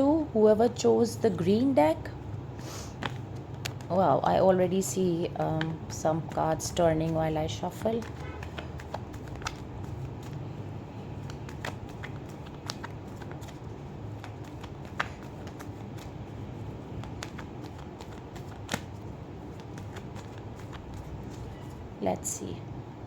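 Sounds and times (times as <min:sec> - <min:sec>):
low steady hum: 0:00.0 - 0:23.0
cards being shuffled: 0:02.8 - 0:04.1, 0:04.8 - 0:22.0.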